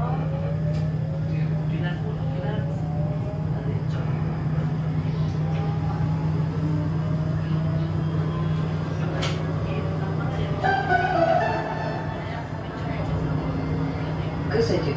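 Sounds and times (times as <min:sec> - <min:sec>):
tram running hum: 0:00.0 - 0:14.9.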